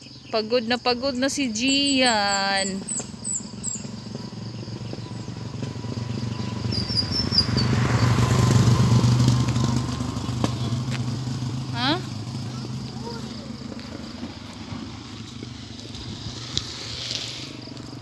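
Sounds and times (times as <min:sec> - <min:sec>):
vehicle engine passing: 0:01.1 - 0:18.0.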